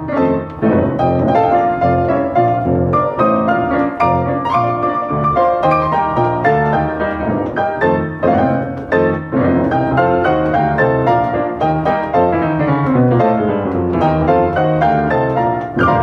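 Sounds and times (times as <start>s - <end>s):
player piano playing: 0.0s - 16.0s.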